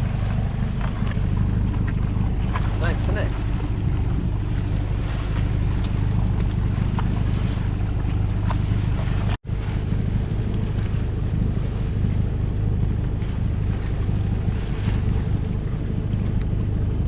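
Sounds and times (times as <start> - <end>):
boat engine humming: 0.0 - 17.0
water noise: 0.0 - 17.0.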